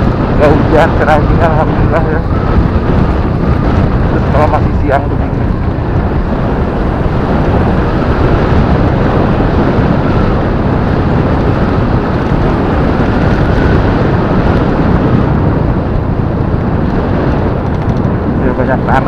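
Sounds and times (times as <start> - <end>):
motorcycle engine running: 0.0 - 19.0
wind rushing over microphone: 0.0 - 19.0.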